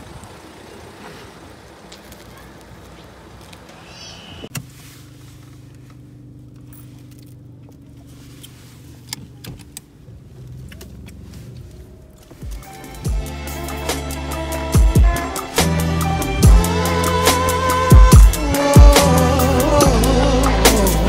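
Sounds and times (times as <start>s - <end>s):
car engine hum from inside: 0.0s - 21.0s
street noise: 0.0s - 21.0s.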